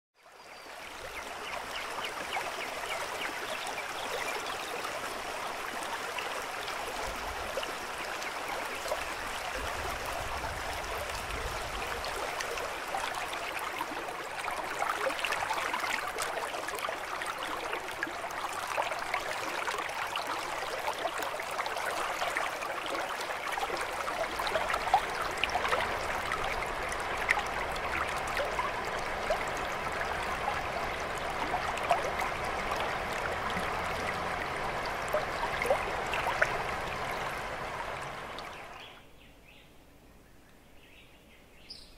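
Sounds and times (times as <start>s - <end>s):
stream babbling and trickling: 0.2s - 41.9s.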